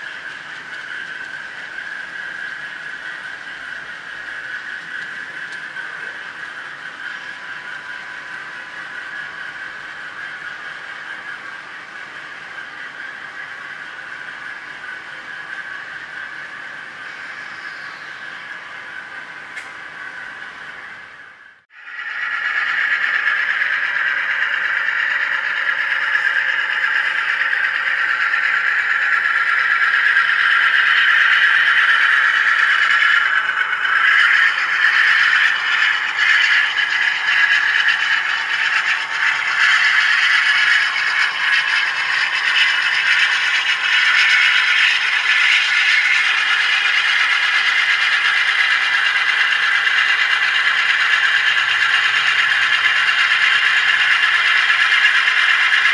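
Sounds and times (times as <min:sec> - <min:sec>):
diesel locomotive engine through small speaker: 0:00.0 - 0:55.9.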